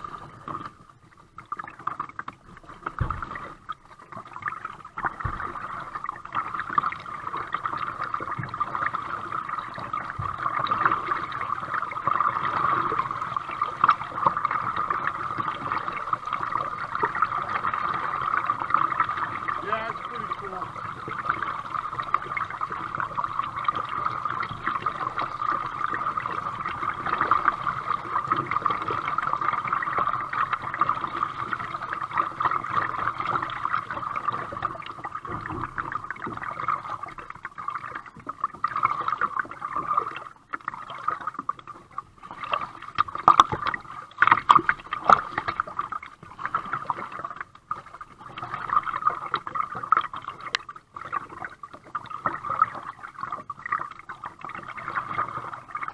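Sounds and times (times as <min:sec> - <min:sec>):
paddle splashes: 0:00.0 - 0:55.9
water gurgling along kayak: 0:00.0 - 0:55.9.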